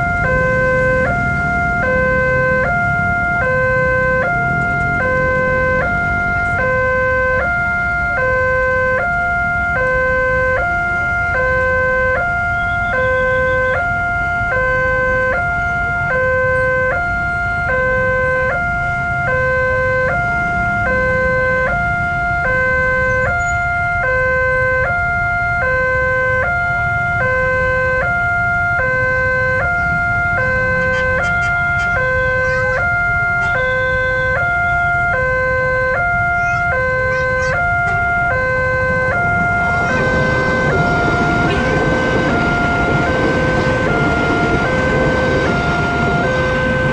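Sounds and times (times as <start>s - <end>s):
level crossing alarm two-tone: 0.0s - 46.9s
motorbike engines: 0.0s - 46.9s
road traffic: 0.0s - 46.9s.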